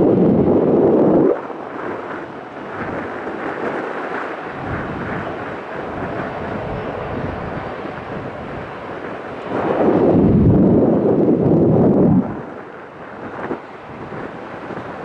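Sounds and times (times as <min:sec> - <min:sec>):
distant jet engine noise: 0:00.0 - 0:15.0
wind buffeting microphone: 0:00.0 - 0:15.0.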